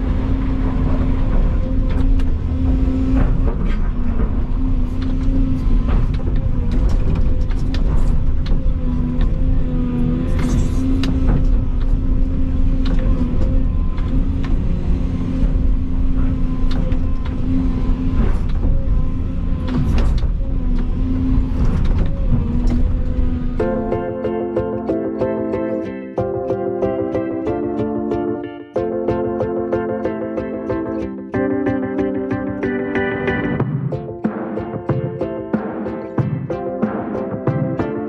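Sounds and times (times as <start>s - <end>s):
excavator diesel engine humming: 0.0s - 33.7s.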